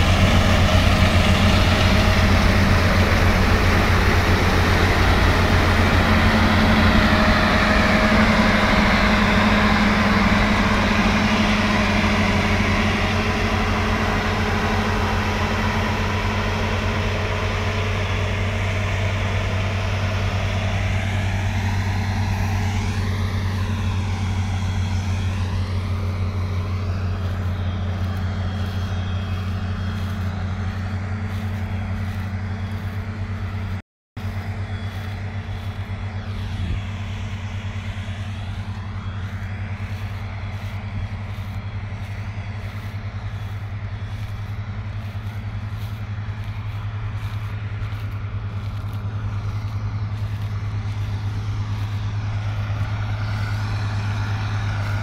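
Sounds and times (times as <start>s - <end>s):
combine harvester diesel drone: 0.0s - 55.0s.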